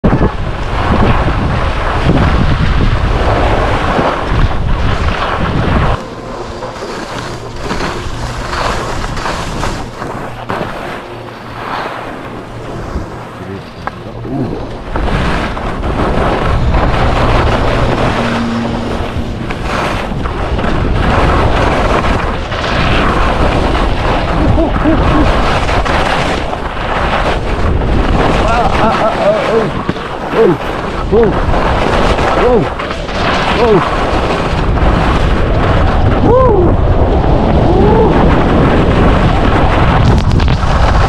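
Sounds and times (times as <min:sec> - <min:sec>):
wind buffeting microphone: 0:00.0 - 0:41.0
ski edges scraping snow: 0:00.6 - 0:36.0.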